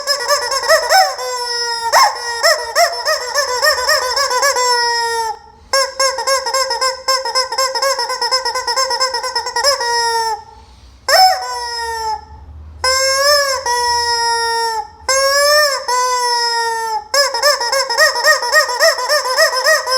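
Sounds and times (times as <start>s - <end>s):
squeaky rubber chicken toy squealing: 0.0s - 19.9s.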